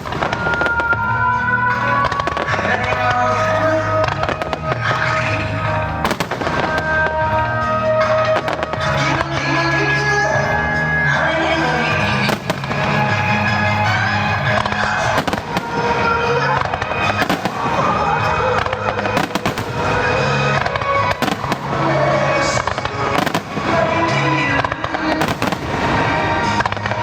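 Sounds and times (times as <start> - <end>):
fireworks bursts and bangs: 0.0 - 27.0
music playing: 0.0 - 27.0.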